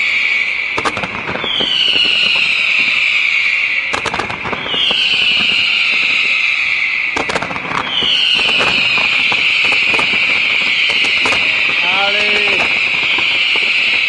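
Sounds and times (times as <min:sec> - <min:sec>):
firework crackles and pops: 0:00.0 - 0:14.0
firework whistle: 0:00.0 - 0:14.0.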